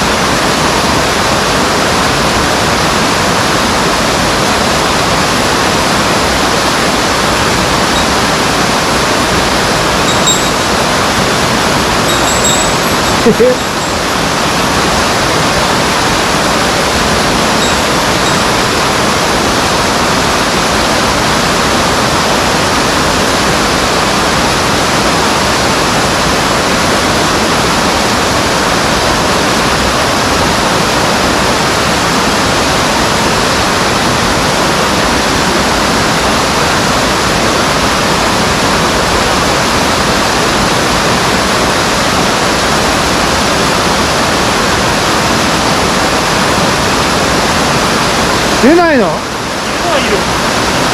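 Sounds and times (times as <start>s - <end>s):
stream water rushing over rocks: 0.0s - 50.9s.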